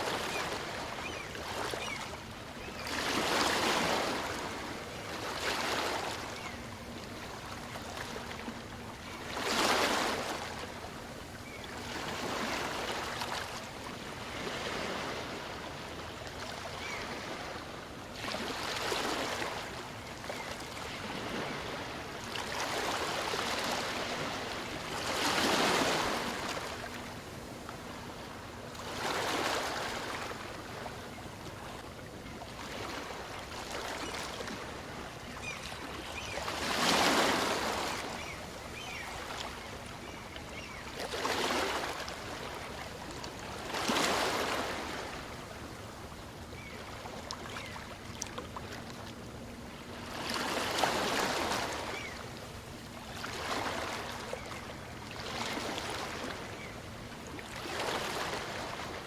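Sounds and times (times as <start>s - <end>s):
small waves washing up a beach: 0.0s - 59.0s.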